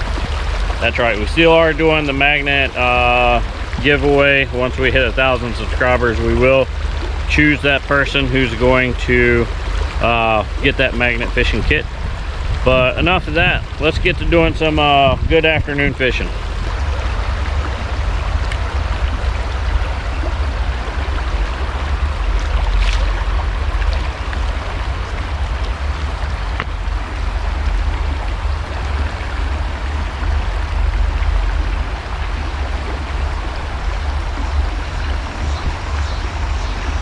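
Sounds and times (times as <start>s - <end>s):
river water rushing over rapids: 0.0s - 13.9s, 16.2s - 37.0s
wind buffeting microphone: 0.0s - 37.0s.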